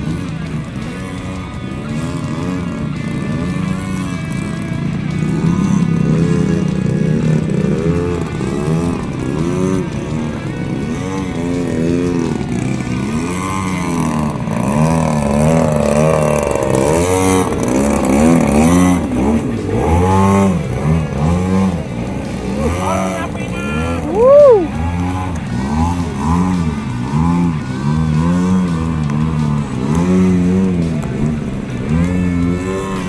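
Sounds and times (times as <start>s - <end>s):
model plane engine in flight: 0.0s - 33.0s.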